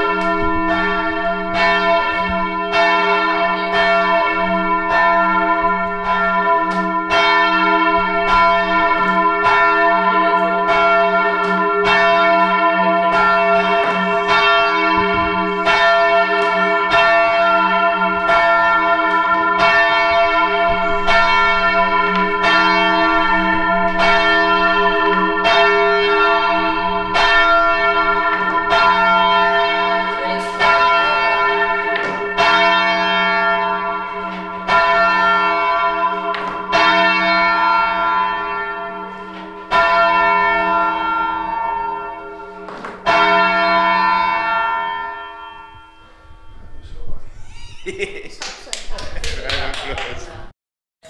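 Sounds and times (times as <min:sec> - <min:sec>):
church bell ringing: 0:00.0 - 0:47.2.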